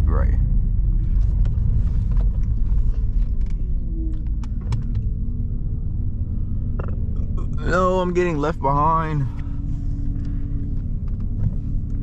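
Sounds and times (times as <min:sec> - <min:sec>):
car cabin engine and road noise: 0:00.0 - 0:12.0.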